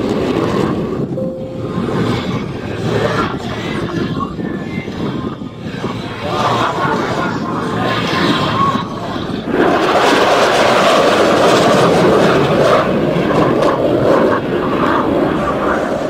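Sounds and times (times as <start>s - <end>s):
fighter jet roaring past: 0.0s - 16.0s.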